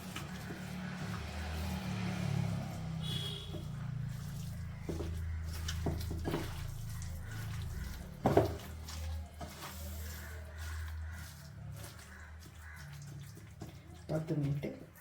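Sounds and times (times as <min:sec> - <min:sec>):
wet hand mixing in bowl: 0:00.0 - 0:15.0.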